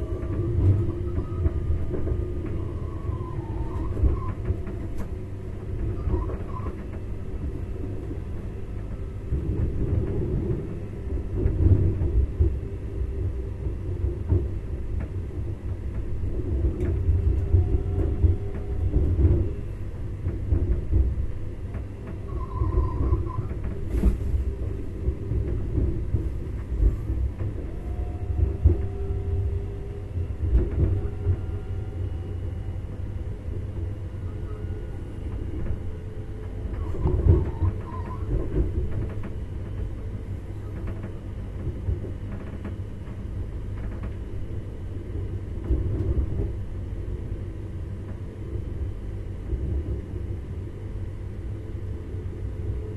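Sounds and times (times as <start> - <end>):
train rumble with hum: 0.0 - 52.9.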